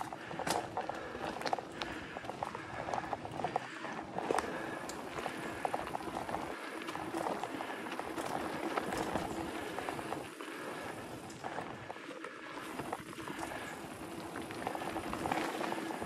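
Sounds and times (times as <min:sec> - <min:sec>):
bike clicks and rattles: 0:00.0 - 0:16.0
bike tyres rushing on dirt: 0:00.0 - 0:16.0.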